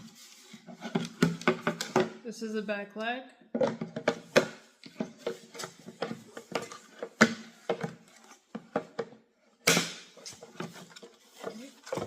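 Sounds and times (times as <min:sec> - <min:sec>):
plastic parts clicking and knocking: 0:00.8 - 0:02.2, 0:03.6 - 0:12.0.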